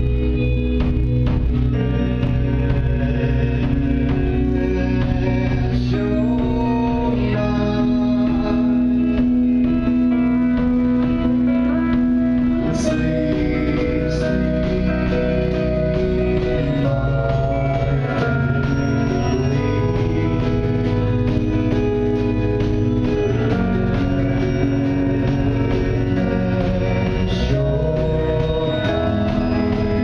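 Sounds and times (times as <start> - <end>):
electric guitar: 0.0 - 30.0
sustained keyboard chords: 0.0 - 30.0.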